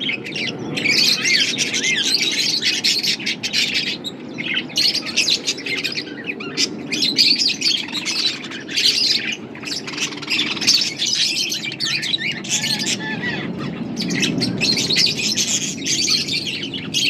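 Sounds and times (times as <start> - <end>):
budgies chirping and chattering: 0.0 - 17.0.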